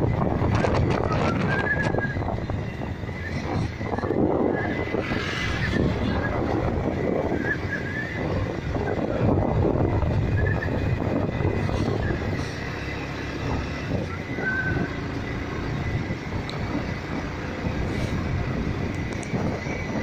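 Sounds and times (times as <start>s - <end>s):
wind rushing on microphone: 0.0s - 20.0s.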